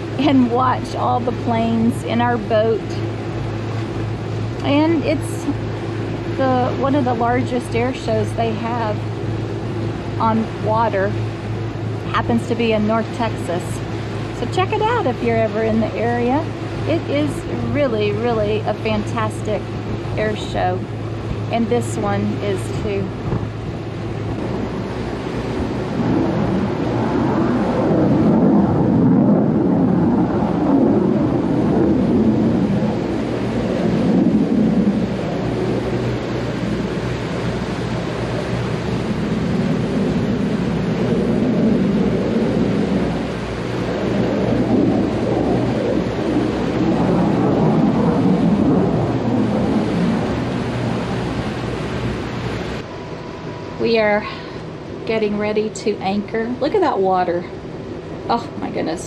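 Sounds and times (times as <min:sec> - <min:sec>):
boat engines droning: 0:00.0 - 0:59.0
boat wake rushing: 0:00.0 - 0:59.0
wind buffeting microphone: 0:00.0 - 0:59.0.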